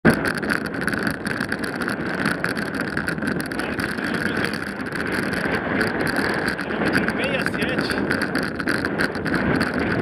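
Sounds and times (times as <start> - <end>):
bicycle tyre road noise: 0.0 - 10.0
wind buffeting microphone: 0.0 - 10.0.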